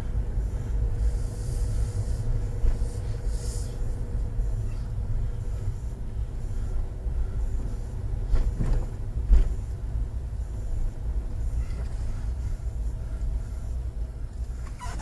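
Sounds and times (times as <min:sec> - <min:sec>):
motorhome engine rumble: 0:00.0 - 0:15.0.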